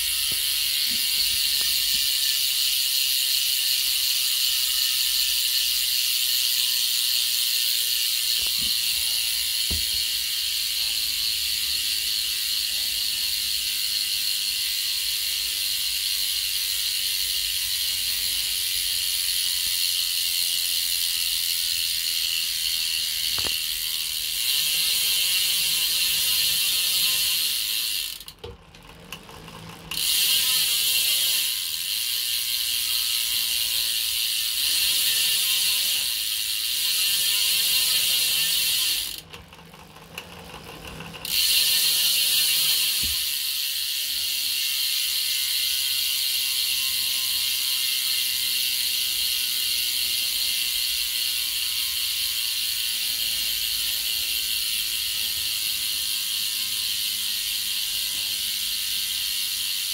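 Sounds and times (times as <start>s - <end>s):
bicycle freehub ratcheting: 0.0s - 59.9s.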